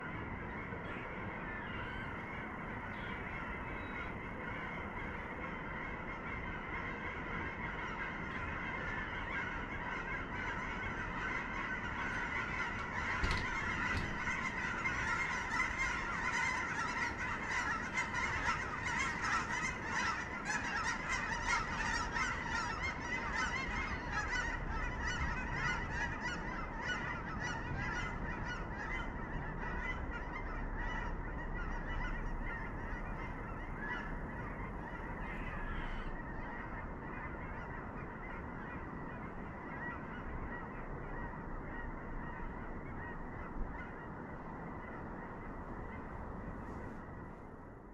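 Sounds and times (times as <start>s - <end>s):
geese honking in flight: 0.0s - 47.3s.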